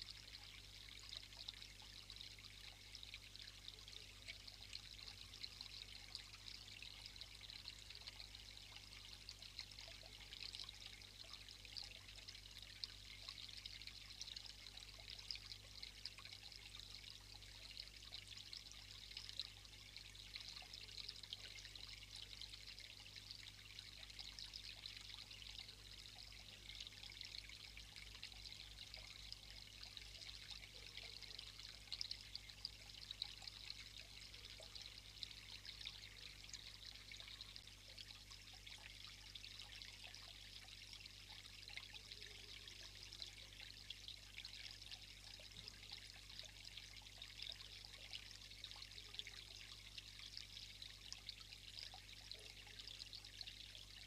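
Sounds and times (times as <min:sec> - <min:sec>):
water trickling over rocks: 0:00.0 - 0:54.0.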